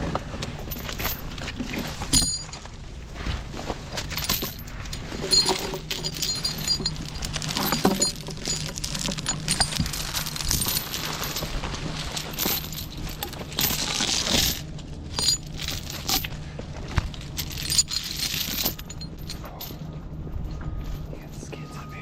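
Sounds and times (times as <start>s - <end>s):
steady low hum: 0.0s - 22.0s
metal chain rattling: 0.6s - 2.7s, 4.0s - 16.4s, 17.2s - 21.1s.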